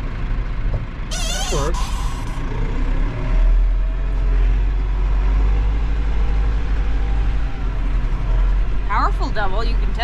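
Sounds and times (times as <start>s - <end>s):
diesel tractor engine rumbling: 0.0s - 10.0s.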